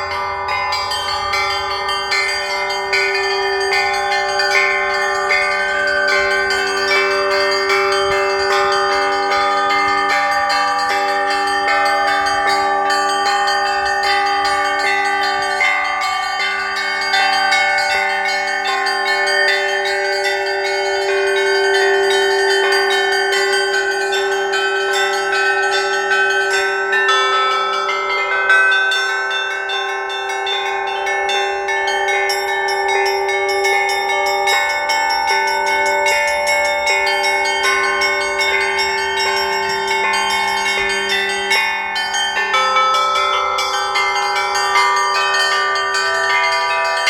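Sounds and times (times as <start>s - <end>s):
church bells pealing: 0.0s - 47.0s.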